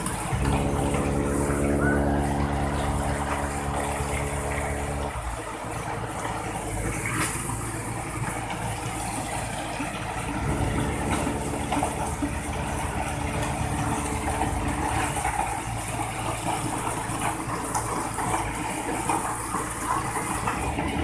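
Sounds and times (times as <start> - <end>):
churning water-like rush: 0.0 - 21.0
concrete mixer engine running: 0.0 - 21.0.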